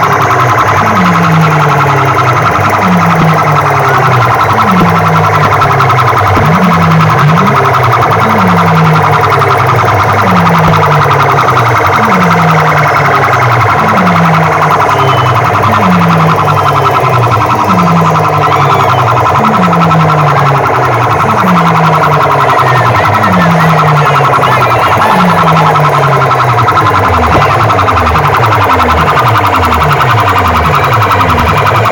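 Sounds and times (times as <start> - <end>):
harsh distorted buzz: 0.0 - 31.9
siren-like low falling tone: 0.0 - 31.9.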